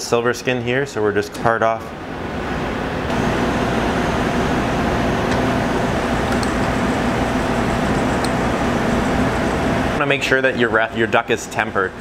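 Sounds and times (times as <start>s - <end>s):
ventilation fan humming: 0.0s - 12.0s.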